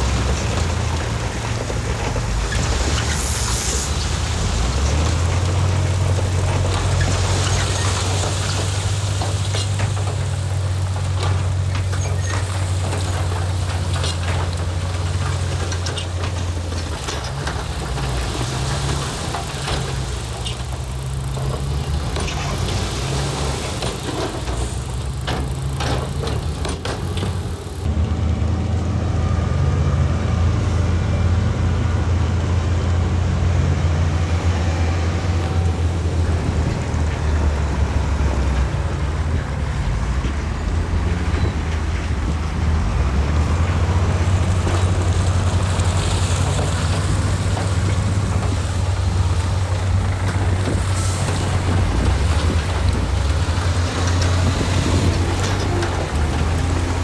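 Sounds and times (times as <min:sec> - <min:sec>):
knocks and clanks: 0:00.0 - 0:27.9, 0:33.6 - 0:57.0
heavy diesel engines running: 0:00.0 - 0:57.0.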